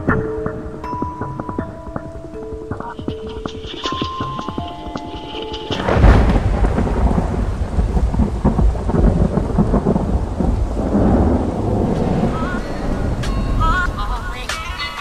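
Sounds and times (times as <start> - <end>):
thunder rumbling: 0.0 - 14.9
steady rain: 0.0 - 15.0.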